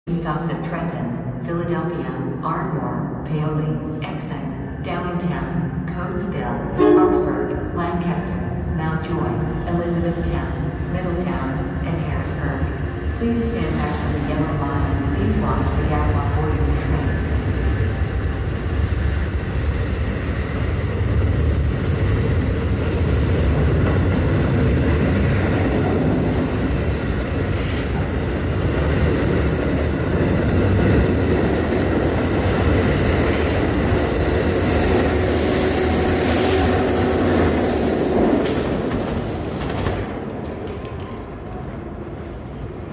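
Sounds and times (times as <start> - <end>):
rumble of passing train cars: 0.8 - 42.9.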